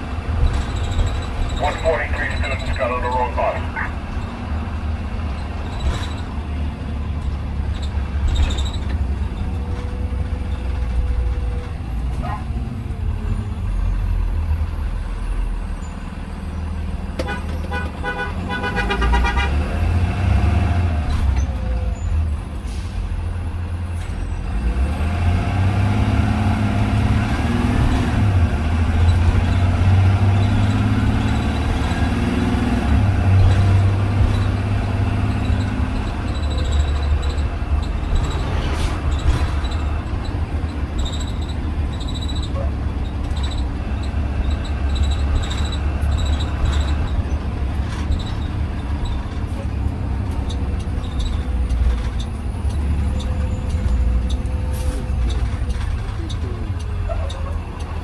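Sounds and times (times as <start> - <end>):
bus engine droning: 0.0 - 58.0.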